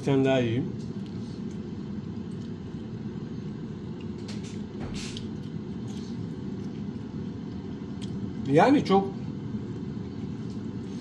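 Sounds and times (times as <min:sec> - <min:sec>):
air fryer fan whirring: 0:00.0 - 0:11.0
fries being chewed: 0:00.8 - 0:08.6, 0:09.2 - 0:11.0.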